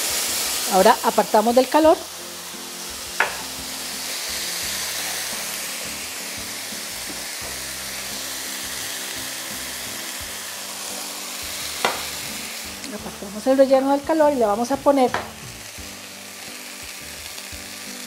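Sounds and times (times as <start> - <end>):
food sizzling in a skillet: 0.0 - 18.0.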